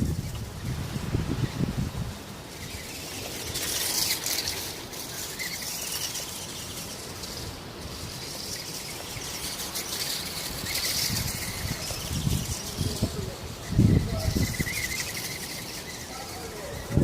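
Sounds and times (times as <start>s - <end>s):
birds chirping: 0.0s - 17.0s
steady high hiss: 0.0s - 17.0s.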